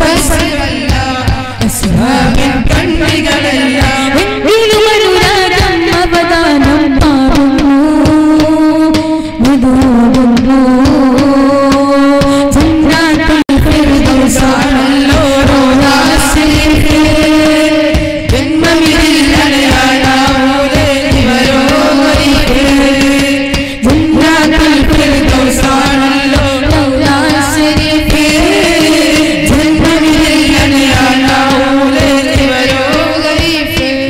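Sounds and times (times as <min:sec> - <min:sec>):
boys singing through microphones: 0:00.0 - 0:34.0
rhythmic percussion beat: 0:00.0 - 0:34.0.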